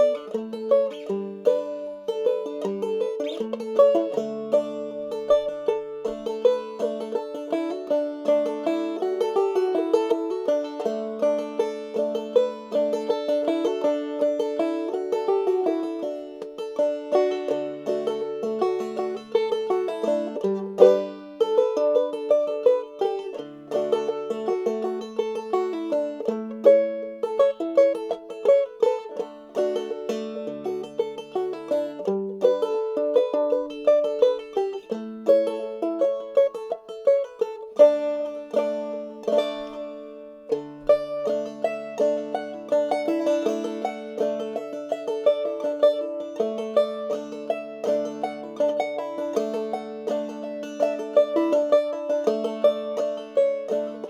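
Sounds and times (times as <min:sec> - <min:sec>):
banjo playing old-time tune: 0:00.0 - 0:54.0.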